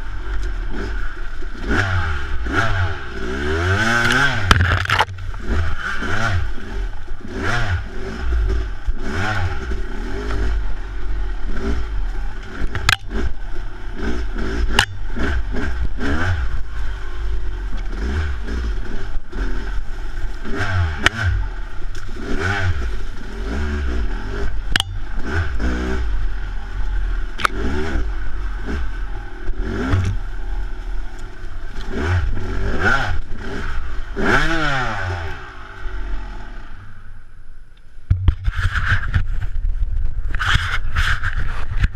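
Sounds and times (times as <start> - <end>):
dirt bike engine revving: 0.0 - 37.1.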